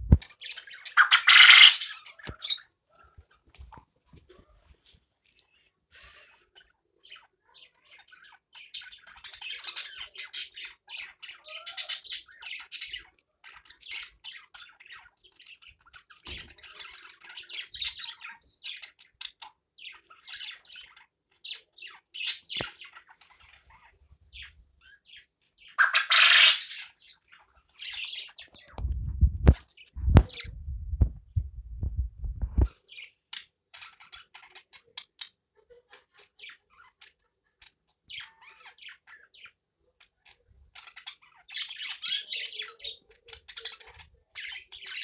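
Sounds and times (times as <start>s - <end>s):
quail chirping and squawking: 0.0s - 3.2s, 5.9s - 31.2s, 32.3s - 45.0s.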